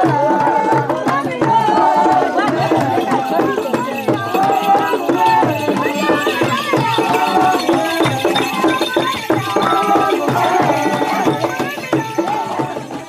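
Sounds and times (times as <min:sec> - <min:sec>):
rapid hand drumming: 0:00.0 - 0:13.0
voices chanting together: 0:00.0 - 0:13.0.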